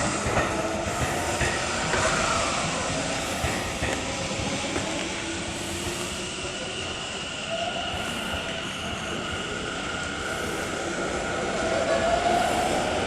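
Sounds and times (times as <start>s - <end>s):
electric train rumbling on rails: 0.0s - 13.0s
high whine of train: 0.0s - 13.0s.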